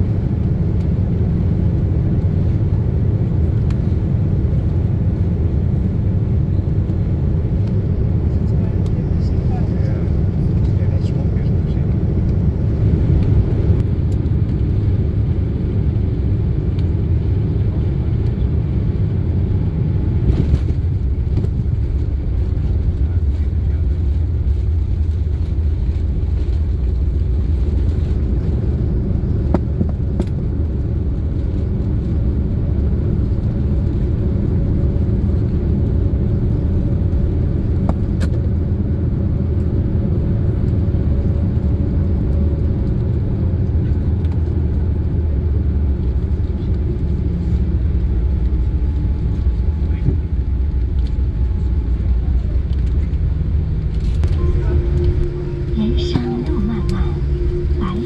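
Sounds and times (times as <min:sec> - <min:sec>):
low rumble of jet landing: 0:00.0 - 0:58.0.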